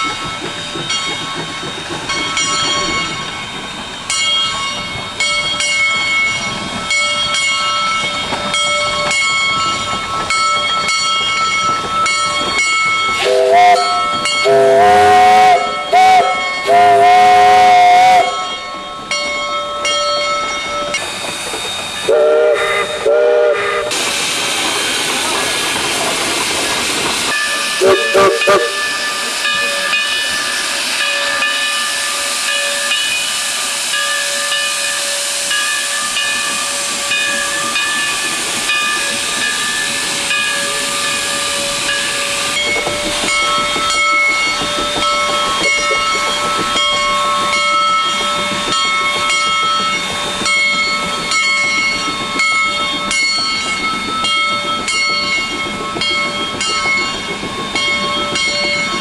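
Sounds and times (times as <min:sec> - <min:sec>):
steam locomotive venting steam: 0:00.0 - 0:59.0.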